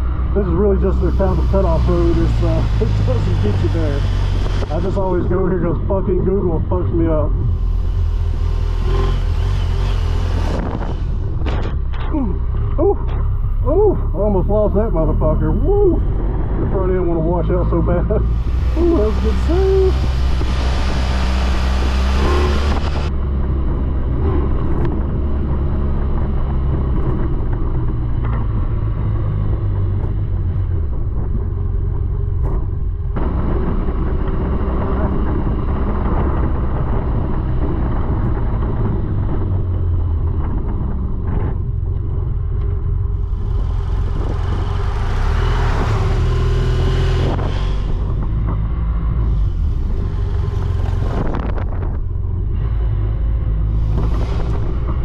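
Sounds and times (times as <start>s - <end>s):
wind rushing over microphone: 0.0s - 13.6s, 14.6s - 55.0s
motorcycle engine droning: 0.0s - 55.0s.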